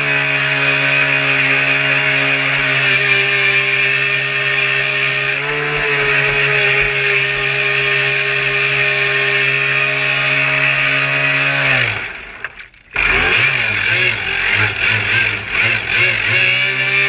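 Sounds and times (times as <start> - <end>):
model boat motor buzzing: 0.0 - 17.0.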